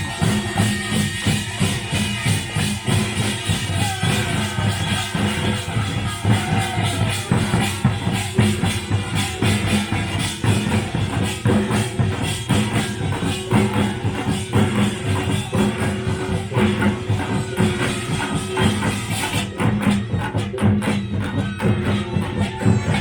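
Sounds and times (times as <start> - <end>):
folk percussion band playing: 0.0 - 23.0
steady ringing tone: 0.0 - 23.0.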